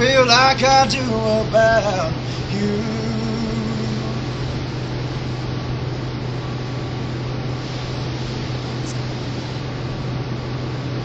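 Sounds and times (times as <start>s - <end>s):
background hiss: 0.0s - 11.0s
low hum: 0.0s - 11.0s.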